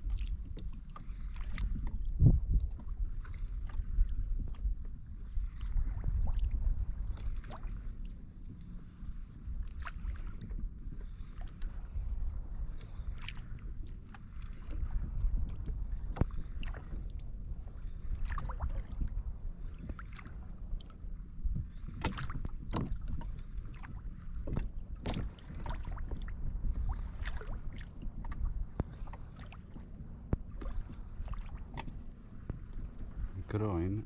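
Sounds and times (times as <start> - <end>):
steady low rumble: 0.0 - 34.0
water splashing against kayak: 0.0 - 34.0.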